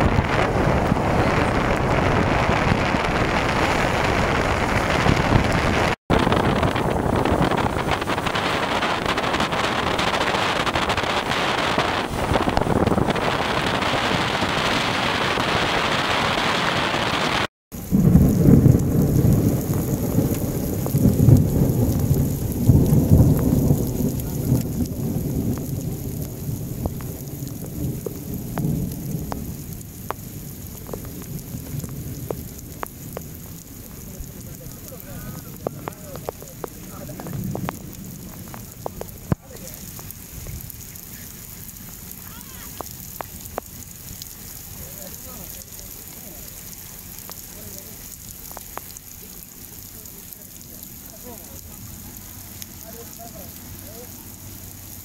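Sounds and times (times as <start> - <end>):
low uneven rumble: 0.0 - 15.2, 17.8 - 55.0
heavy rain rushing: 0.0 - 55.0
raindrops ticking: 0.0 - 55.0.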